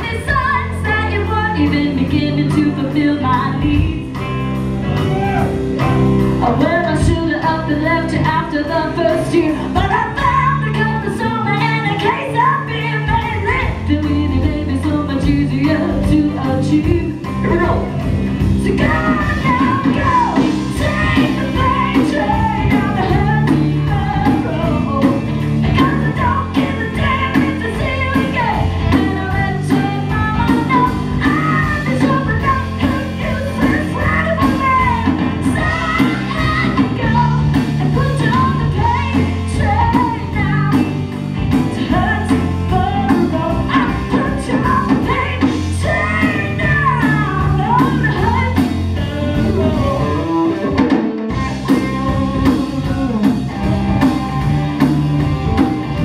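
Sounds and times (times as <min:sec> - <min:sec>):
woman singing: 0:00.0 - 0:04.3, 0:06.4 - 0:50.7, 0:51.5 - 0:54.1
drums: 0:00.0 - 0:56.0
electric bass: 0:00.0 - 0:56.0
electric guitar: 0:00.0 - 0:56.0.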